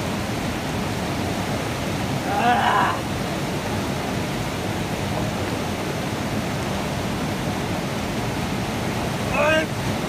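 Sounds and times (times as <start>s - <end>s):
rushing whitewater stream: 0.0s - 10.0s.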